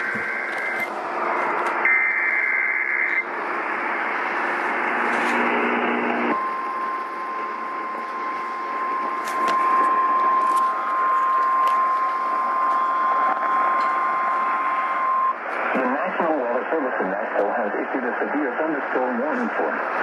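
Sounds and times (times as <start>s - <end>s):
radio static: 0.0s - 20.0s.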